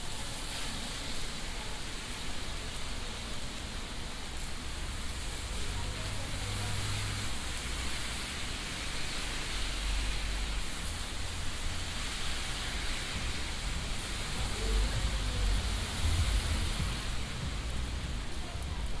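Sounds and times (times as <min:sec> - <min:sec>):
city traffic rumble: 0:00.0 - 0:19.0
rain on an umbrella: 0:00.0 - 0:19.0.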